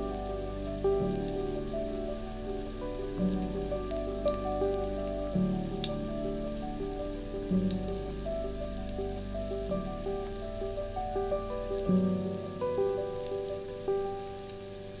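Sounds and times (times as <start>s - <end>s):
background music: 0.0s - 15.0s
seeds sizzling in hot oil: 0.0s - 15.0s.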